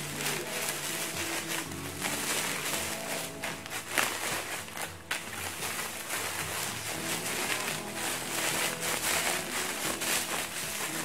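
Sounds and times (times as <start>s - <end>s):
background music: 0.0s - 11.0s
plastic bags crinkling: 0.0s - 11.0s.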